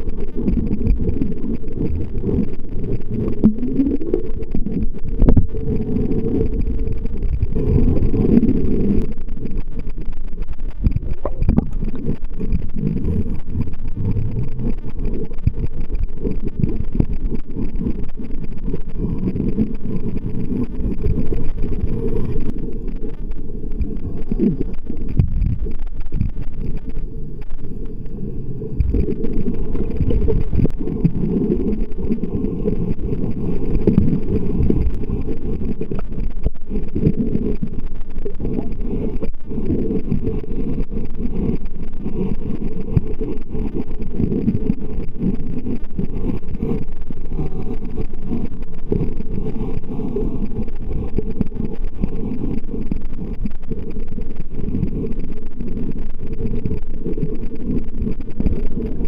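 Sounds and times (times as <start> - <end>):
low underwater rumble: 0.0 - 59.0.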